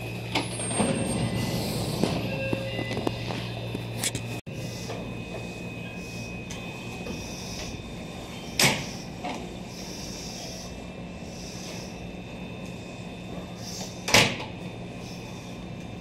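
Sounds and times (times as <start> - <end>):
electric train hum and whine: 0.0 - 16.0.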